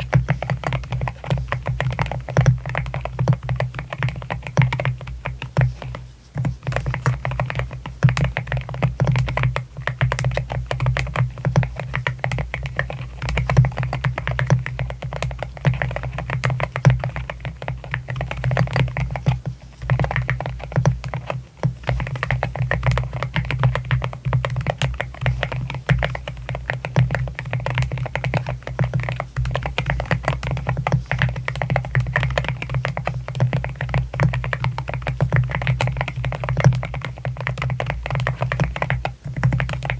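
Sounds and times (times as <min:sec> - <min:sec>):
mechanical keyboard typing: 0:06.6 - 0:39.9.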